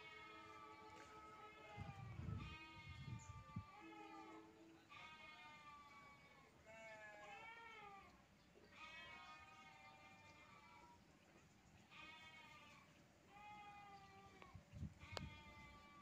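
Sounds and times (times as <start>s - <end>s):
faint livestock bleating: 0.0s - 11.0s, 11.8s - 16.0s.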